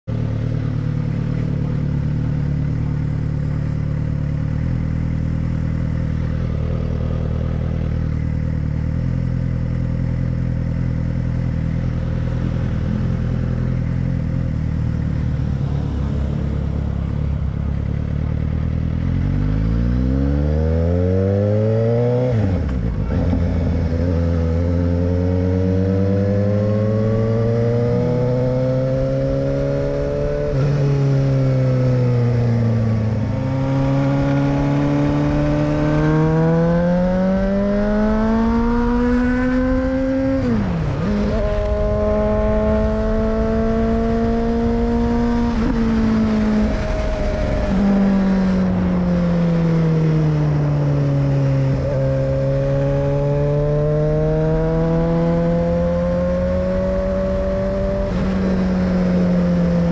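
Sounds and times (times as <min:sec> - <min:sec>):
motorcycle engine revving: 0:00.1 - 0:59.9.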